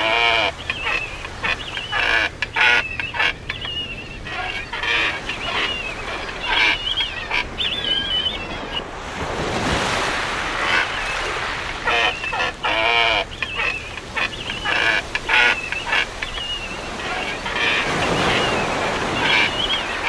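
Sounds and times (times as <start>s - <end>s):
seabirds calling: 0.0s - 20.0s
surf washing: 0.0s - 20.0s.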